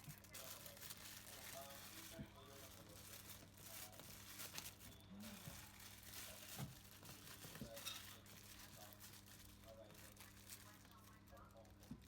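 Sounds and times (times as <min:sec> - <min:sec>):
tape crinkling and tearing: 0:00.0 - 0:11.6.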